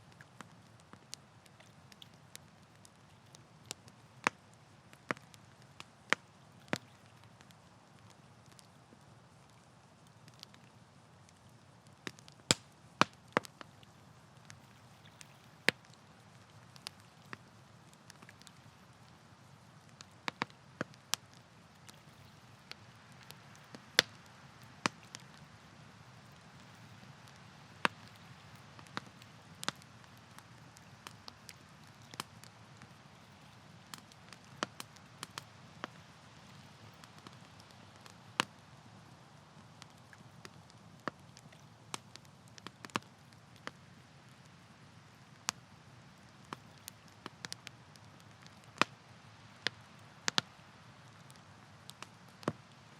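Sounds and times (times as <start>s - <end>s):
campfire crackling: 0.0s - 52.9s.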